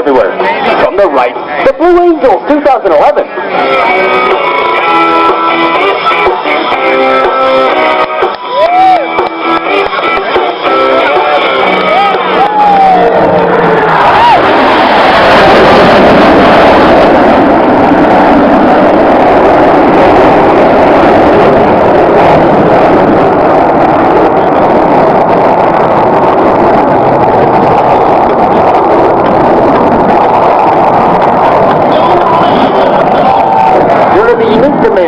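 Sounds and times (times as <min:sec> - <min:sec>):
jets roaring past: 0:00.0 - 0:35.0.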